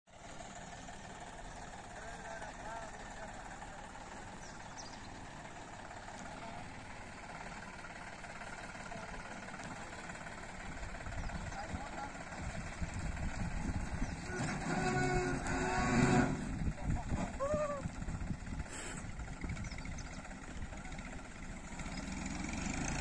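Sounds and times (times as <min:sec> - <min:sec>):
tractor diesel engine running: 0:00.1 - 0:23.0.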